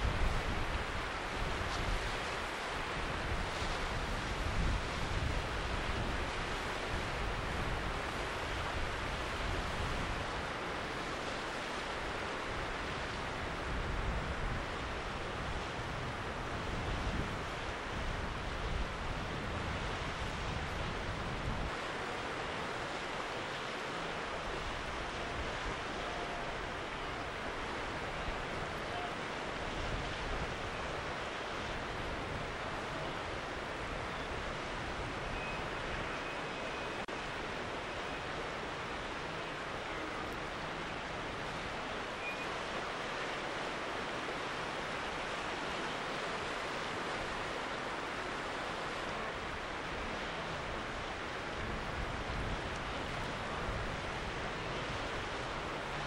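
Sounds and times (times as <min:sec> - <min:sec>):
fast-flowing river rushing: 0:00.0 - 0:56.0
wind rumbling on microphone: 0:00.0 - 0:56.0.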